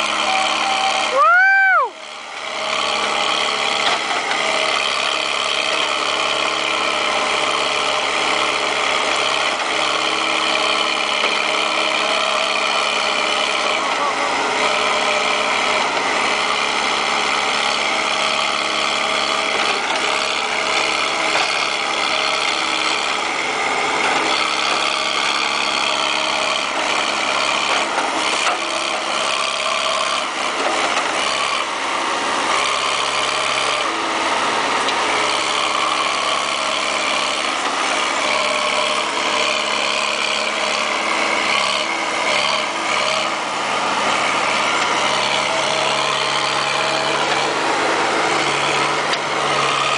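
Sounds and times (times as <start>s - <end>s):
backhoe engine running: 0.0s - 49.9s.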